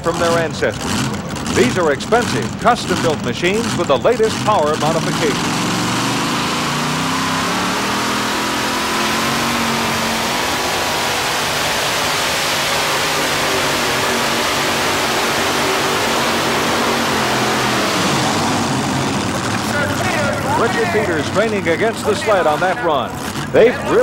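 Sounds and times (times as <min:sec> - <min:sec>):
tractor engine roaring: 0:00.0 - 0:24.0.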